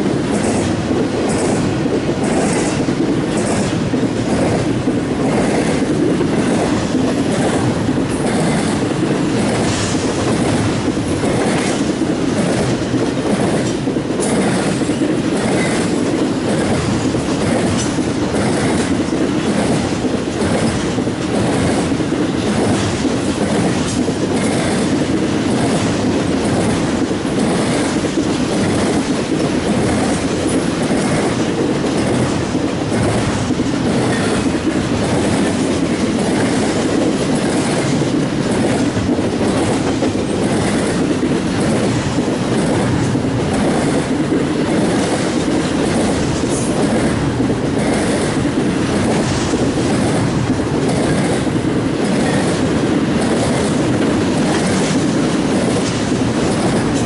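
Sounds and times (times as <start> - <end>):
freight train rumbling past: 0.0 - 57.0
wheels clacking over rail joints: 0.0 - 57.0.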